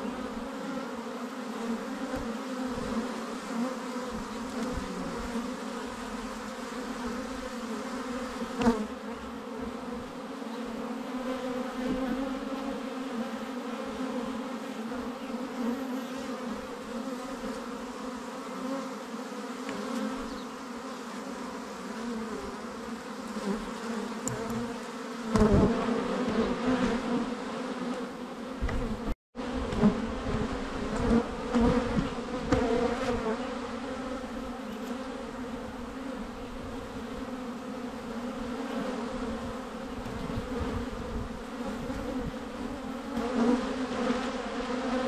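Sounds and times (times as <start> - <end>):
honeybees buzzing: 0.0 - 45.0.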